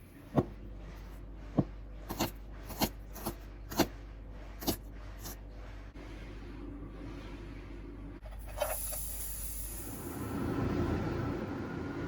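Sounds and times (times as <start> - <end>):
low steady background: 0.0 - 12.0.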